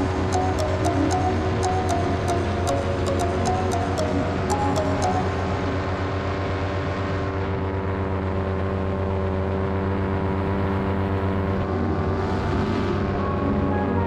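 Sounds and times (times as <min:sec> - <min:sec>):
paramotor engine droning: 0:00.0 - 0:14.0.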